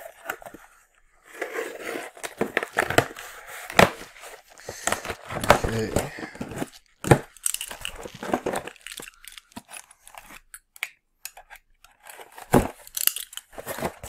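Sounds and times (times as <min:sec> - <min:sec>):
packaging rustling and tearing: 0:00.0 - 0:10.5, 0:11.9 - 0:14.0.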